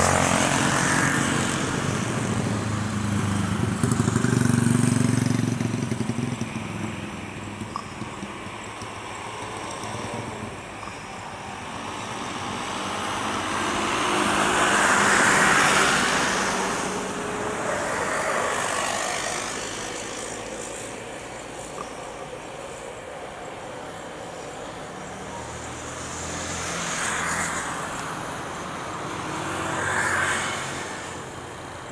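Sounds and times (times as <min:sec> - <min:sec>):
vehicles passing close by: 0:00.0 - 0:31.9.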